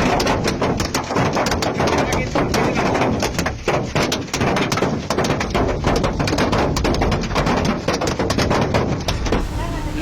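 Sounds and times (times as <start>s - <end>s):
rapid patter of small impacts: 0.0s - 9.5s.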